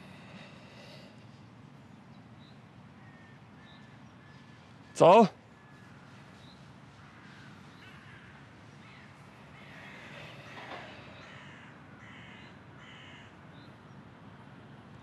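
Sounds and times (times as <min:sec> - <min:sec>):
faint birds calling: 0:00.0 - 0:14.1.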